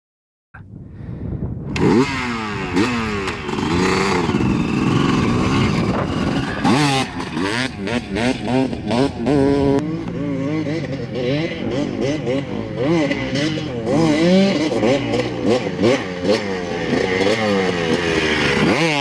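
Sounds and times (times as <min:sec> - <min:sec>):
dirt bike engine revving: 0:01.7 - 0:19.0.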